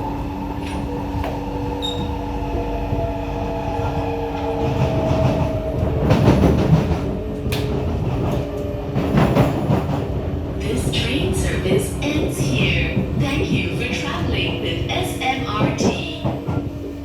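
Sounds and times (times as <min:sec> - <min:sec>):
metro train running: 0:00.0 - 0:17.0
wheels rumbling over track: 0:00.0 - 0:17.0.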